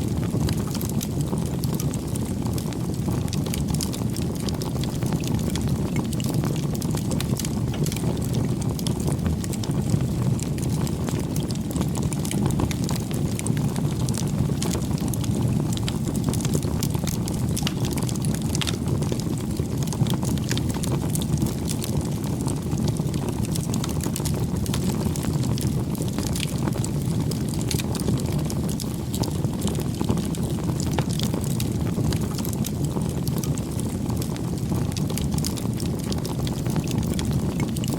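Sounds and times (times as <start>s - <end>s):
burning wood crackling and popping: 0.0s - 37.9s
low rush of flames: 0.0s - 37.9s.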